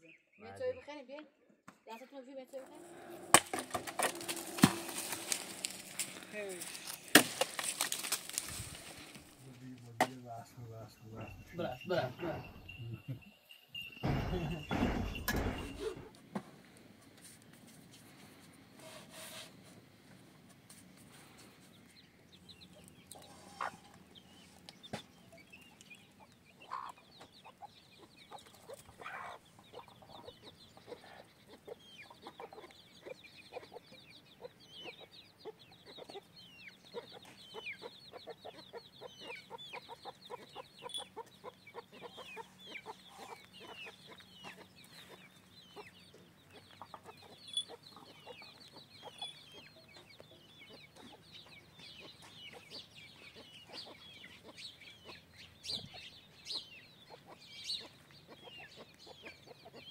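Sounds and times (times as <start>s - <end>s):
chickens clucking: 1.9s - 16.5s, 17.2s - 59.9s.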